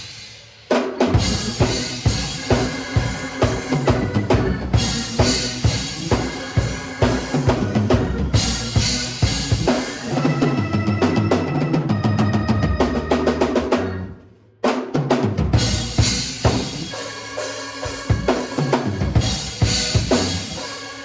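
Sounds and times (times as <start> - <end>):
drum kit playing: 0.0 - 21.0.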